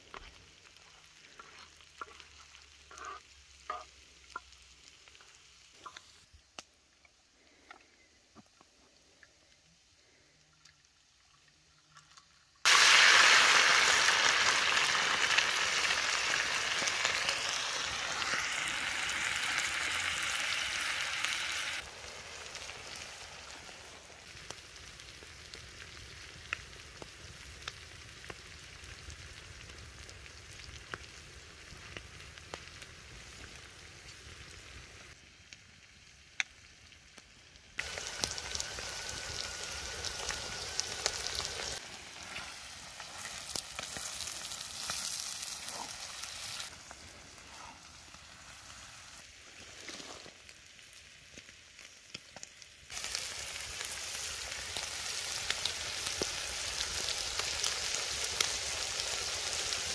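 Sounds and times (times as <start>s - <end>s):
meat sizzling on a hot griddle: 0.0s - 6.2s, 12.6s - 59.9s.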